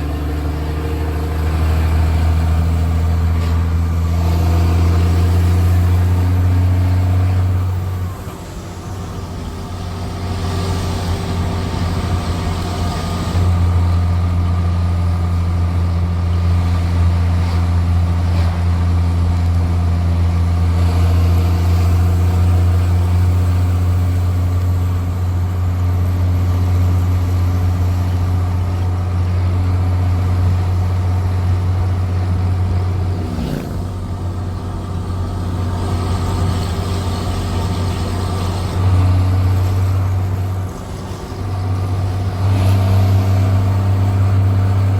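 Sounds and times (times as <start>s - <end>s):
diesel engine exhaust drone: 0.0s - 44.9s.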